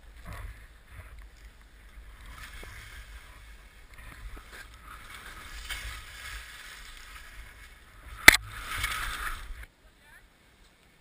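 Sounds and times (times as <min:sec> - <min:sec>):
skis scraping over snow: 0:00.0 - 0:09.7.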